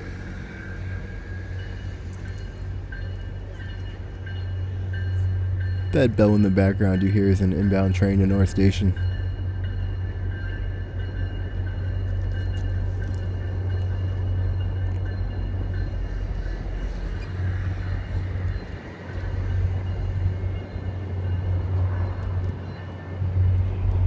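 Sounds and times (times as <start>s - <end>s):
distant locomotive bell ringing: 0.1s - 24.0s.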